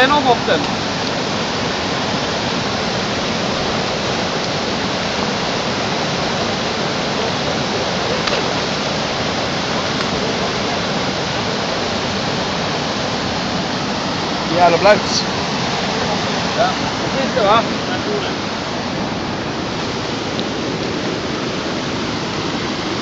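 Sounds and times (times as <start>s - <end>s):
river rapids rushing over rock: 0.0s - 23.0s.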